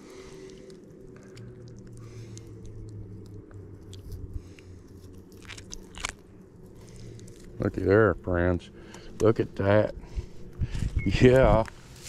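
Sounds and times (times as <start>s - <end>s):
distant motorcycle engines droning: 0.0s - 11.9s.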